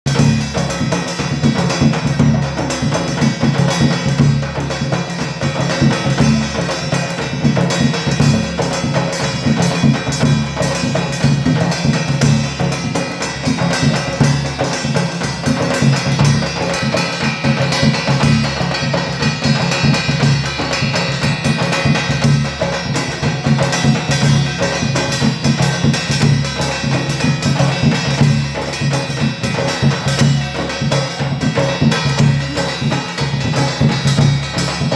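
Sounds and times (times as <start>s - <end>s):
barrel drum booming: 0.1s - 34.9s.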